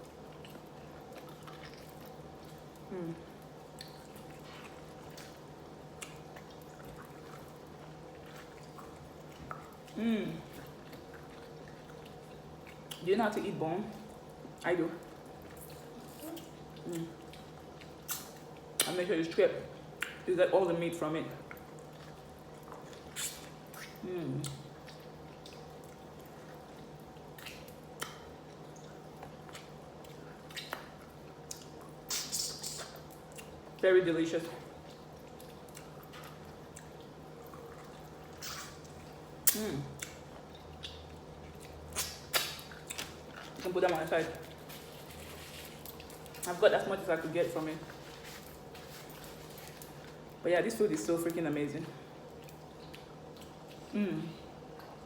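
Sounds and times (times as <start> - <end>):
person chewing meat: 0.0 - 13.0, 14.1 - 18.9, 21.4 - 33.8, 34.6 - 43.6, 44.4 - 46.5, 52.1 - 55.0
steady low hum: 0.0 - 55.0
wet eating sounds: 0.0 - 55.0.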